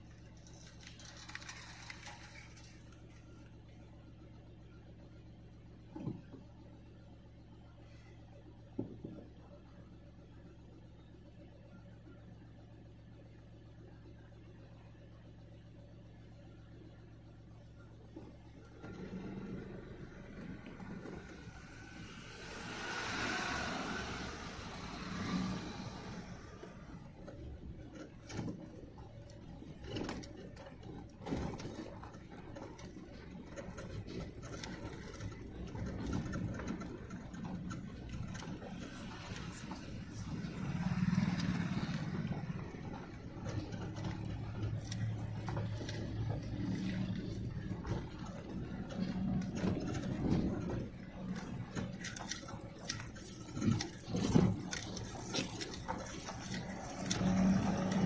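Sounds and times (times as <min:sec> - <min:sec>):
engine running low and steady: 0:00.0 - 0:58.0.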